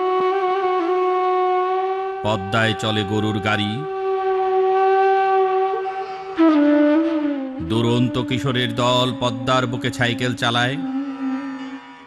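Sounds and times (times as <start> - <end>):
flute holding long notes: 0.0 - 12.0.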